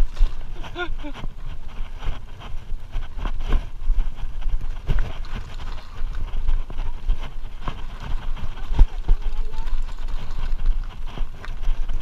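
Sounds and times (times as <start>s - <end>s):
low rumble of tyres on dirt: 0.0s - 12.0s.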